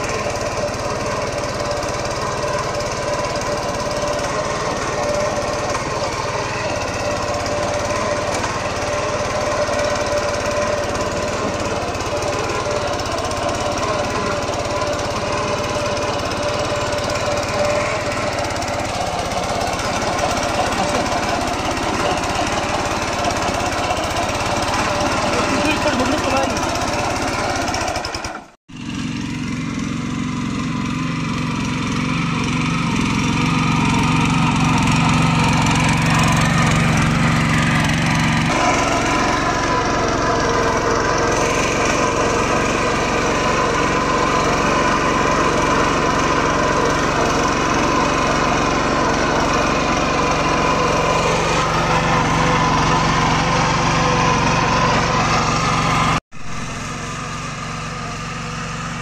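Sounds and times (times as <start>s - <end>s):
power tiller engine running: 0.0s - 59.0s.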